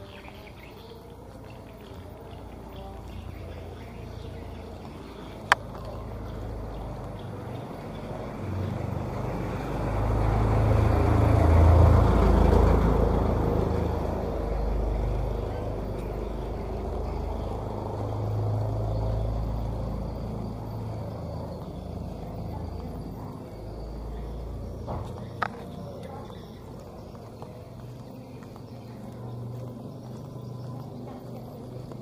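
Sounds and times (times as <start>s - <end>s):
vehicle passing by: 0.0s - 32.0s.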